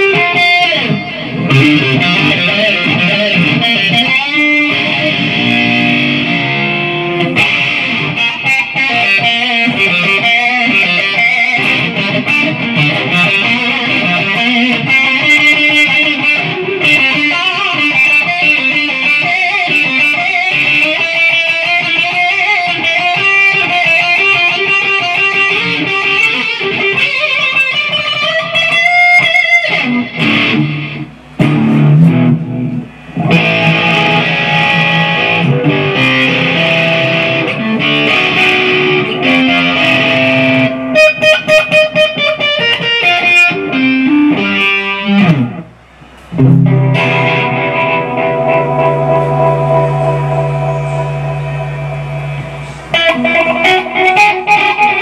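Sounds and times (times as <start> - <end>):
electric guitar lead line: 0.0 - 55.0.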